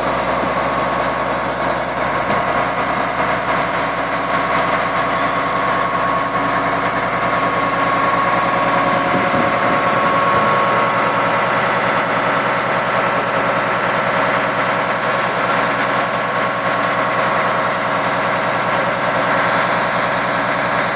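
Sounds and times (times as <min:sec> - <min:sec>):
steady whine: 0:00.0 - 0:20.8
bulldozer diesel engine running: 0:00.0 - 0:20.9.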